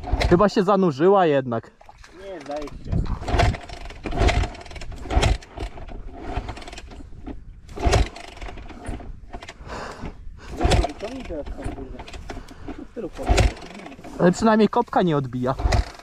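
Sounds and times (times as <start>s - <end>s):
motorcycle kickstarter kicks: 0.0s - 0.5s, 2.3s - 14.2s, 15.5s - 16.0s
engine turning over: 0.0s - 0.6s, 2.3s - 14.8s, 15.4s - 16.0s.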